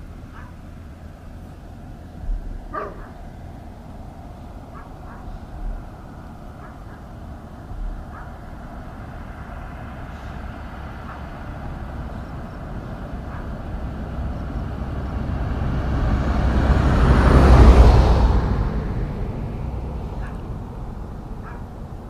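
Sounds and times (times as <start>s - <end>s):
vehicle engine and tyre noise: 0.0s - 22.0s.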